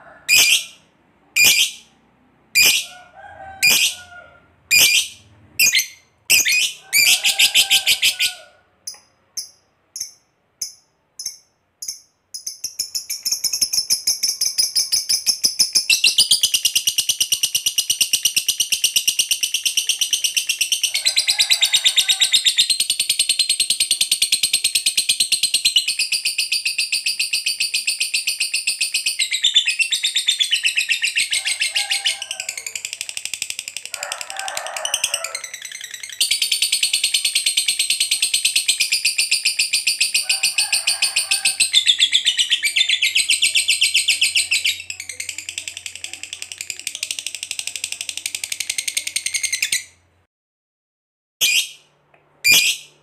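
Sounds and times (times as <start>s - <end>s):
lovebird chirping and chattering: 0.2s - 0.8s, 1.4s - 1.9s, 2.6s - 2.9s, 3.6s - 4.0s, 4.7s - 8.3s, 8.9s - 34.2s, 34.8s - 50.0s, 51.4s - 51.8s, 52.4s - 52.9s.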